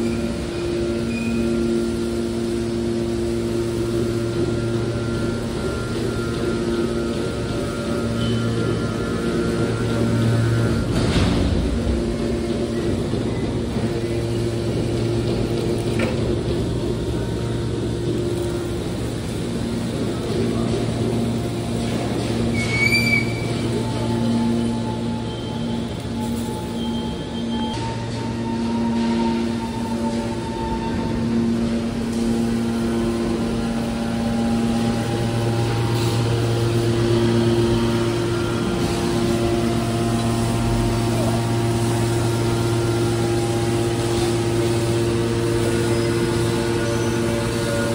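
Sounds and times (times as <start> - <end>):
hydraulic power unit humming: 0.0 - 47.9.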